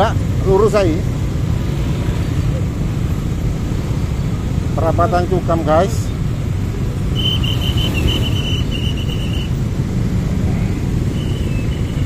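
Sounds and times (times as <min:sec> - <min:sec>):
engines idling: 0:00.0 - 0:12.0.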